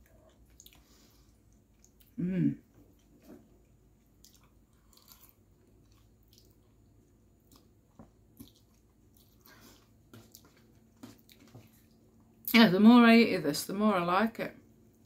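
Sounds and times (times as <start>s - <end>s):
person chewing food: 0.0s - 12.4s.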